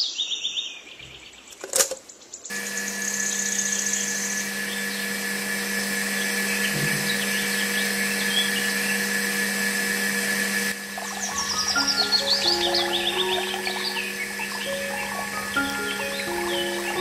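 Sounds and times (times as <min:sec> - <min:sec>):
small pump motor humming: 0:02.5 - 0:17.0.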